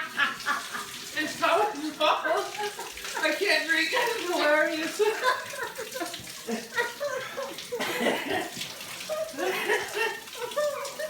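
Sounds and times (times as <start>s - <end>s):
people laughing: 0.0s - 1.0s, 2.2s - 3.4s, 4.0s - 11.0s
running water rushing: 0.0s - 11.0s.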